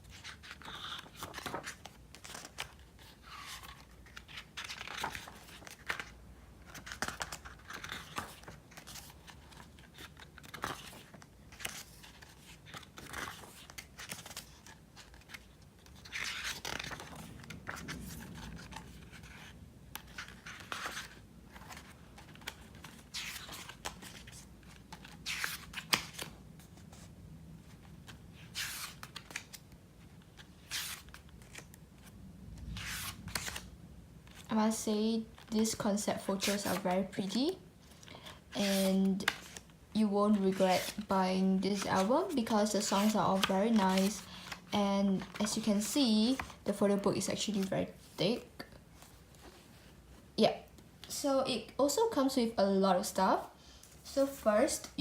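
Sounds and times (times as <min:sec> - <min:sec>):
pages turning: 0:00.0 - 0:34.5, 0:36.4 - 0:39.7, 0:40.3 - 0:46.6.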